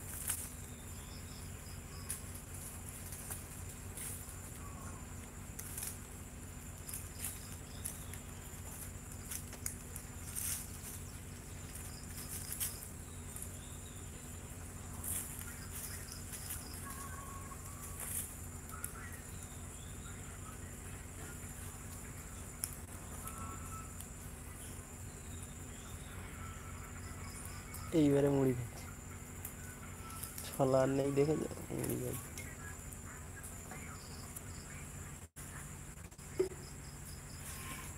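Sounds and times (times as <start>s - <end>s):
high insect buzz: 0.0s - 37.9s
low steady hum: 0.0s - 37.9s.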